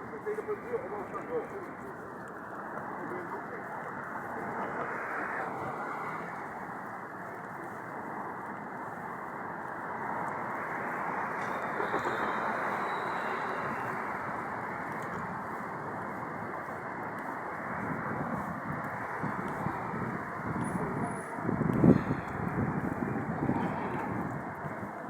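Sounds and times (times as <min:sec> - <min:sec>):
passing traffic: 0:00.0 - 0:25.0.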